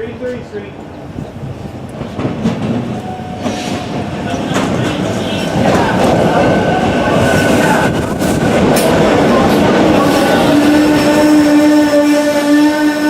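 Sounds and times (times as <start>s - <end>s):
train passing with wheel clatter: 0.0s - 13.0s.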